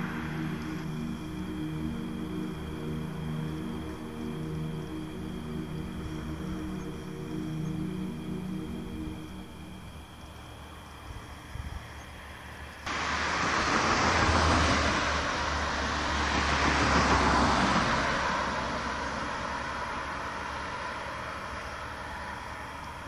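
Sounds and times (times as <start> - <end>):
vehicles passing on road: 0.0 - 23.0.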